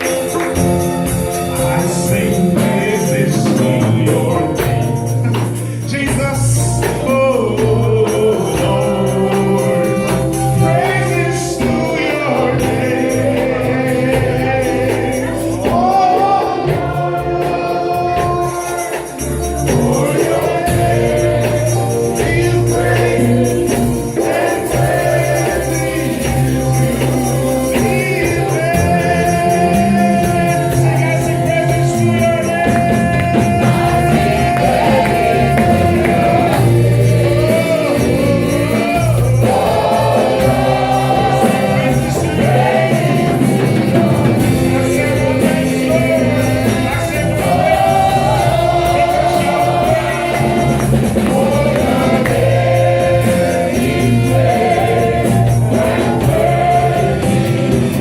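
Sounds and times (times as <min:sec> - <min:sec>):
gospel choir singing: 0:00.0 - 0:58.0.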